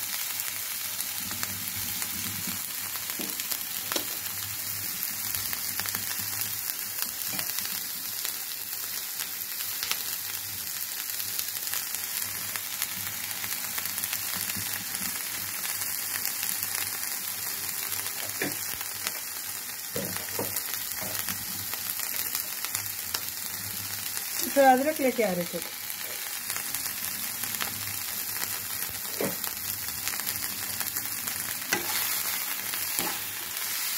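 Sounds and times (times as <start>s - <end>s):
capsicum sizzling in a pan: 0.0s - 33.9s.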